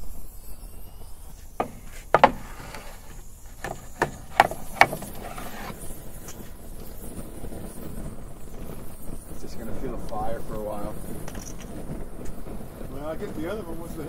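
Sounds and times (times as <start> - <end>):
aerosol hiss: 0.0 - 14.0
flame flaring with sharp pops: 0.0 - 14.0.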